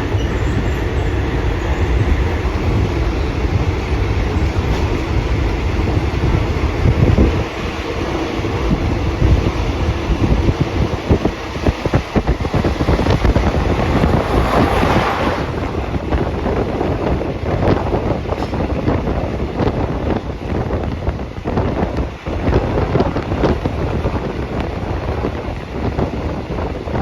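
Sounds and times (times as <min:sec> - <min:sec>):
train rumble: 0:00.0 - 0:27.0
wind buffeting microphone: 0:00.0 - 0:27.0.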